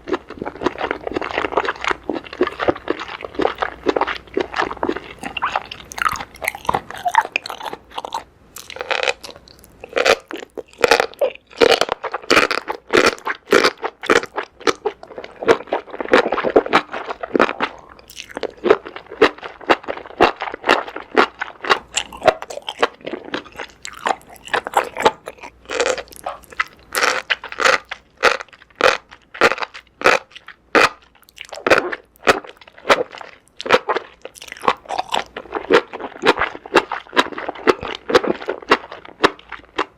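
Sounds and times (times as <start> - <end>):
person eating crunchy bites: 0.0 - 39.9
wet chewing: 0.0 - 39.9.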